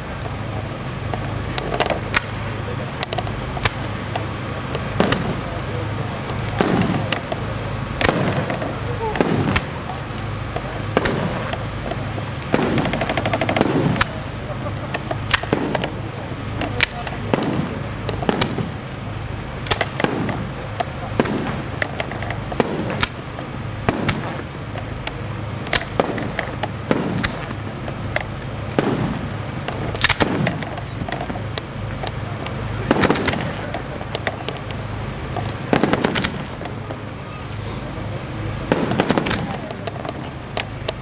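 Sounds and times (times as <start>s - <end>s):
firework shells bursting: 0.0s - 41.0s.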